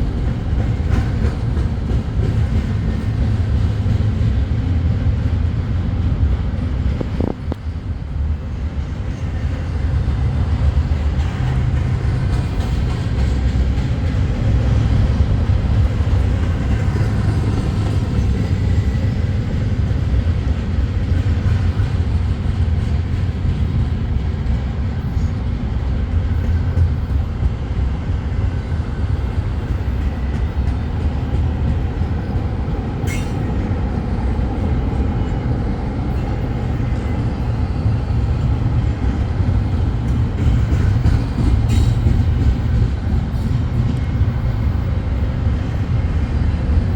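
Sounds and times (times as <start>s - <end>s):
freight train cars rumbling: 0.0s - 46.9s.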